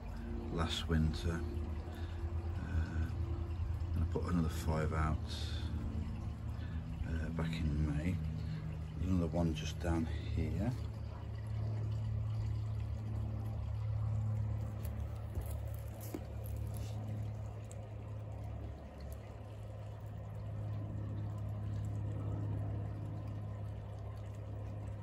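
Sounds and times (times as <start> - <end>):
steady low hum: 0.0 - 25.0
water trickling and splashing: 0.0 - 25.0.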